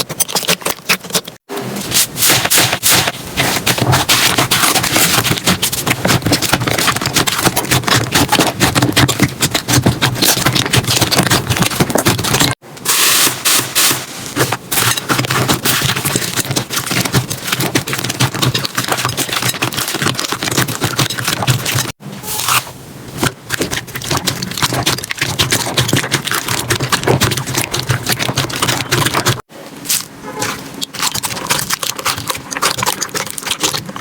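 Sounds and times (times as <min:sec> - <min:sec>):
slime squeezed crackling and squelching: 0:00.0 - 0:12.6, 0:14.7 - 0:34.0.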